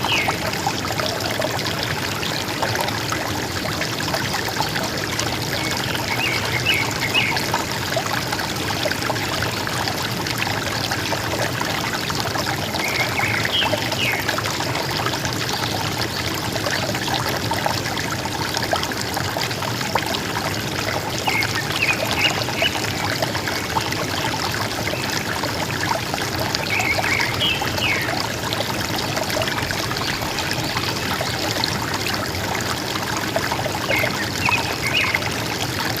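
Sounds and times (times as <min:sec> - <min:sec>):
river water gurgling: 0:00.0 - 0:36.0.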